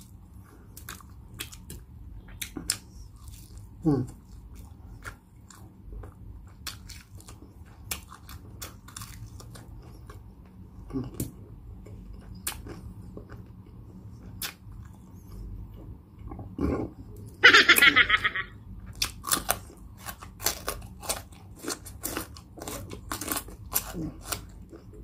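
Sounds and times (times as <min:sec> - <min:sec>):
crunchy chewing: 0:00.0 - 0:15.6, 0:18.8 - 0:25.0.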